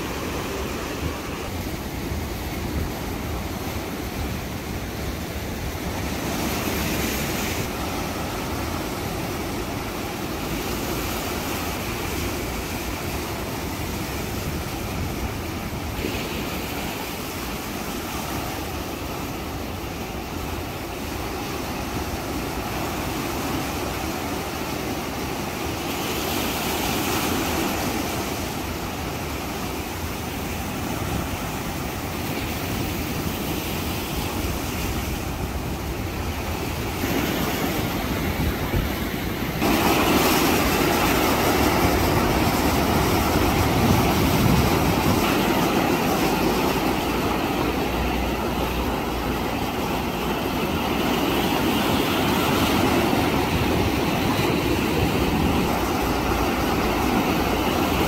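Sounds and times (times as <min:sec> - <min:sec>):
surf breaking on rocky shore: 0:00.0 - 0:58.0.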